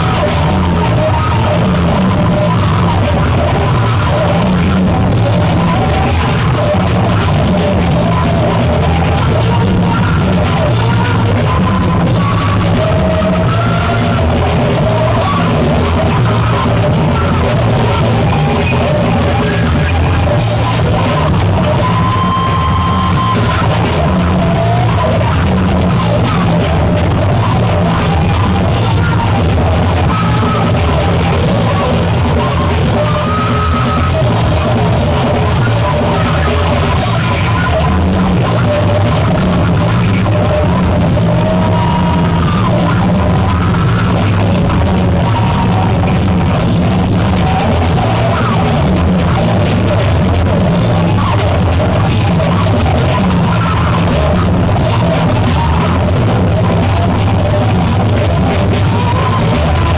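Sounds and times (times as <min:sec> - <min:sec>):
heavy psychedelic rock band: 0:00.0 - 0:59.9.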